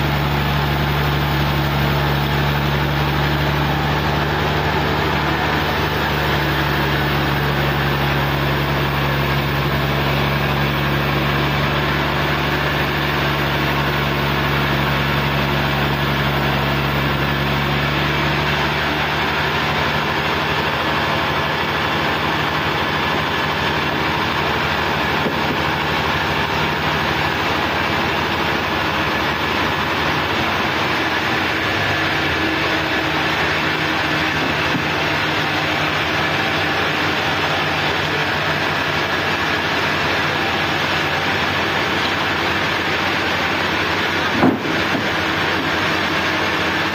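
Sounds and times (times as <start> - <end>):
rough even machine noise: 0.0 - 46.9
sawmill engine hum: 0.0 - 46.9.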